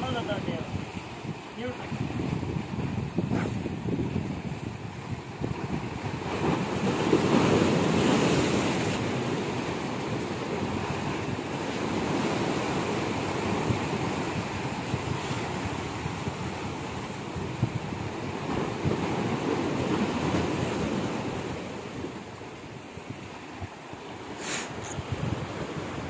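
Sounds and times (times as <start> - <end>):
waves splashing on concrete: 0.0 - 22.8, 23.7 - 26.0
wind buffeting microphone: 0.0 - 26.0.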